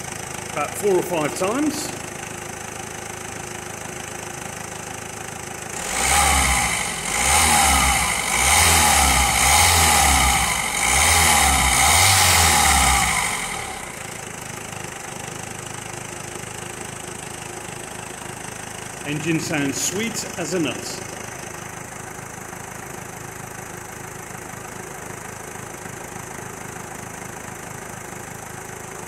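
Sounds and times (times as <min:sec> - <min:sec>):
diesel engine idling and revving: 0:00.0 - 0:29.0.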